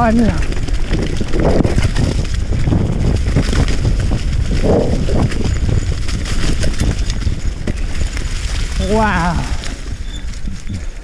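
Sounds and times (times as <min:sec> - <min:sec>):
bike clicks and rattles: 0:00.0 - 0:11.0
bike tires rumbling on leaves: 0:00.0 - 0:11.0.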